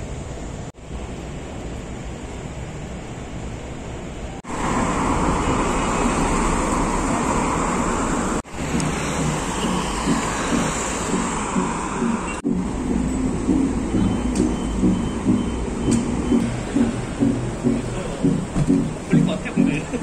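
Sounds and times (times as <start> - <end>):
cars on busy road: 0.0 - 20.0
city traffic rumble: 0.0 - 20.0.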